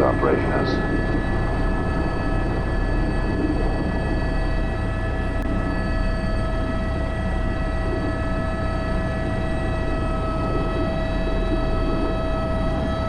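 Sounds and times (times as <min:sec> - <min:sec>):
helicopter engine whine: 0:00.0 - 0:13.0
rotor rumble: 0:00.0 - 0:13.0.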